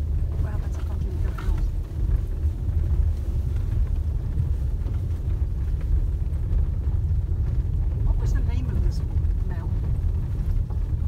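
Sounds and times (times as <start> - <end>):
car driving over gravel road: 0.0 - 11.0.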